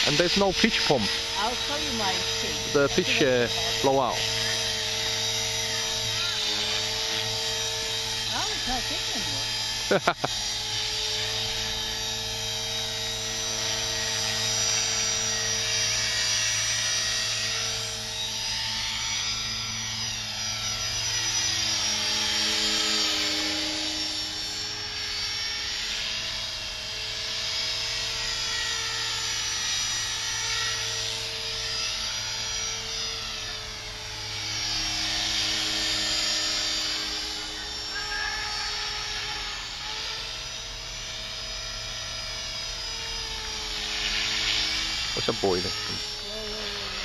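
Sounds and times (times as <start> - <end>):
rc helicopter motor whine: 0.0 - 47.0
rotor buzz: 0.0 - 47.0.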